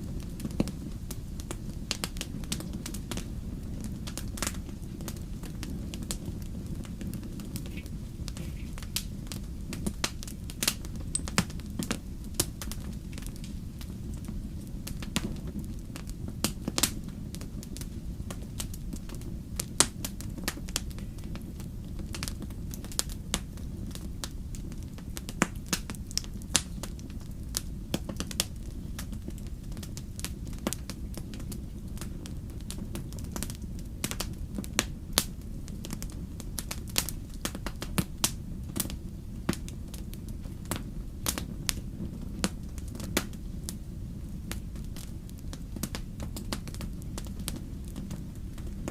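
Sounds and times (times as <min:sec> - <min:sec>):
campfire crackling: 0:00.0 - 0:48.9
low murmur of flames: 0:00.0 - 0:48.9.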